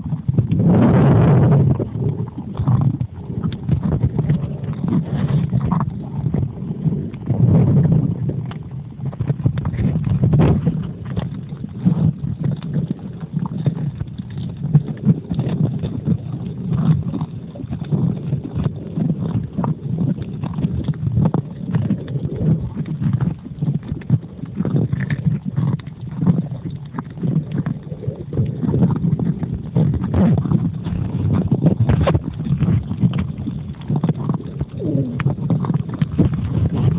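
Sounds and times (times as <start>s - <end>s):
muffled underwater water rumble: 0.0s - 36.9s
soft crackles and knocks: 0.0s - 36.9s.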